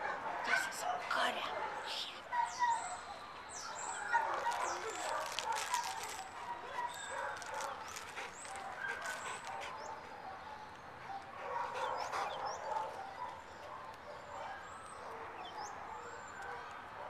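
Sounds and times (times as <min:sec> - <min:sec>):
dogs barking and yipping: 0:00.0 - 0:17.0.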